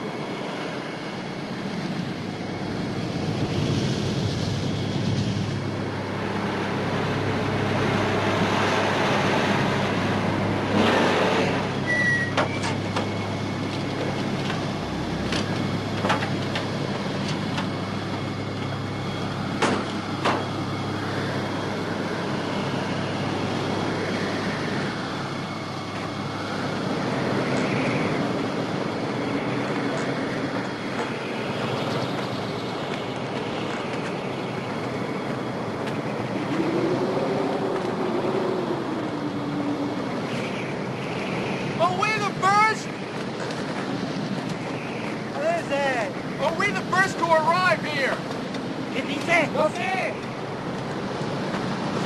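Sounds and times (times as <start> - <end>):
off-road vehicle engines droning: 0.0 - 52.0
strong wind in sandstorm: 0.0 - 52.0.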